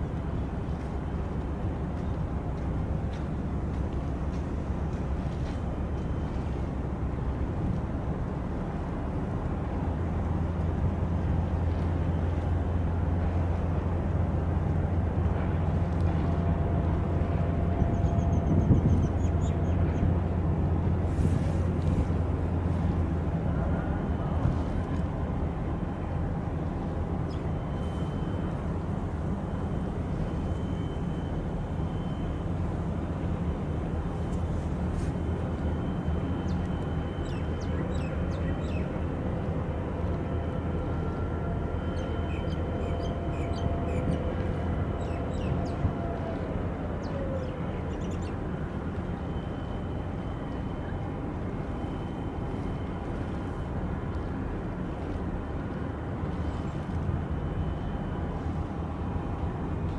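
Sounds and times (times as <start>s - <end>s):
low rumble of ship engines: 0.0s - 59.9s
water noise: 0.0s - 59.9s
wind: 0.0s - 59.9s.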